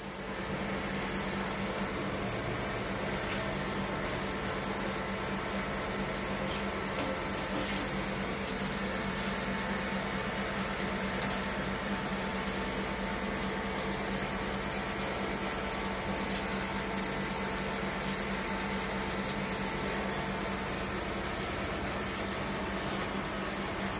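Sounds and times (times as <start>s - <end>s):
induction hob electrical hum: 0.0s - 23.9s
meat sizzling in hot oil: 0.0s - 23.9s.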